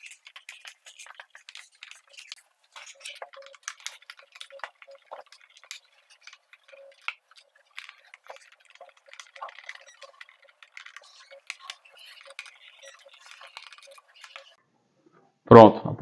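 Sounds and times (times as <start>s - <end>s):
screwdriver clicking and scraping: 0.0s - 14.6s.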